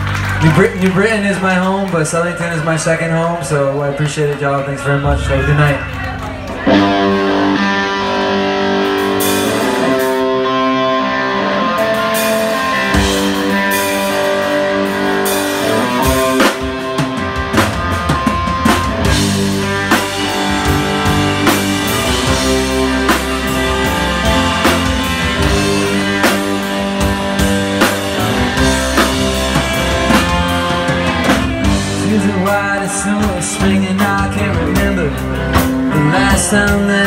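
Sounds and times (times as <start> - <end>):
bass guitar: 0.0 - 37.0
electric guitars: 0.0 - 37.0
drum kit beat: 6.7 - 37.0.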